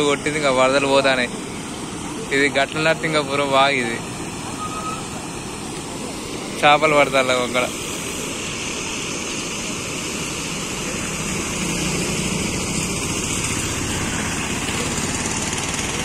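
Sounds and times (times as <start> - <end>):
water pouring over concrete dam: 0.0 - 16.0.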